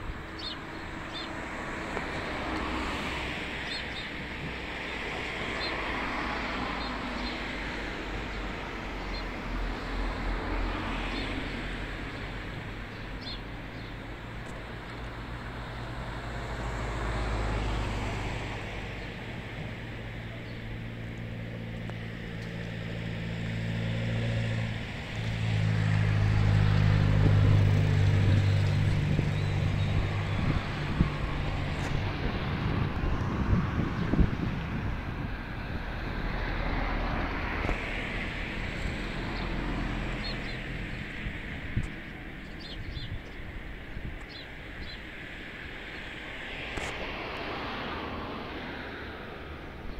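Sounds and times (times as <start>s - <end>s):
vehicle engine humming: 0.0s - 49.9s.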